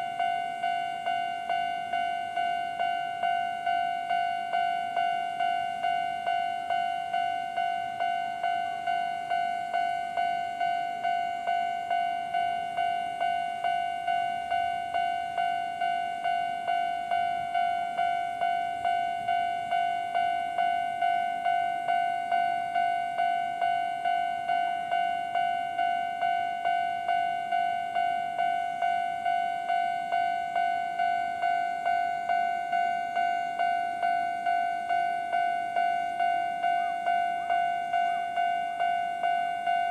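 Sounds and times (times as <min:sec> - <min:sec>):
level-crossing warning bell dinging: 0:00.0 - 0:39.9.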